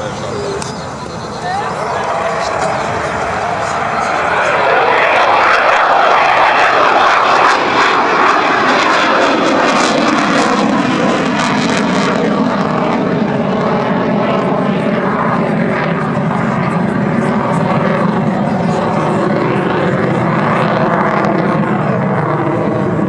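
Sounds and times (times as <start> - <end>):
jet engine roaring with crackle: 0.0 - 23.0.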